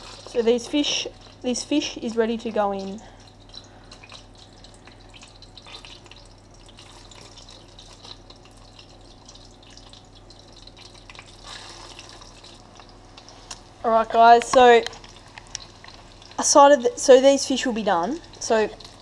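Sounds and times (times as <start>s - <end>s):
fish sizzling in oil: 0.0s - 19.0s.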